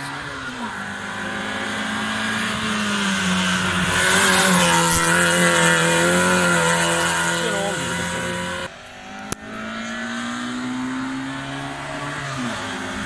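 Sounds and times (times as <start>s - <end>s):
race car engine passing at high revs: 0.0s - 13.0s.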